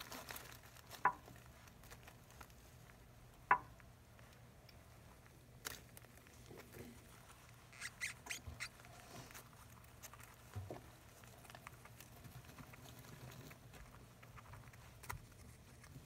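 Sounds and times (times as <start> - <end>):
rats rustling in paper bedding: 0.0 - 3.3, 4.2 - 16.0
low steady hum: 0.0 - 16.0.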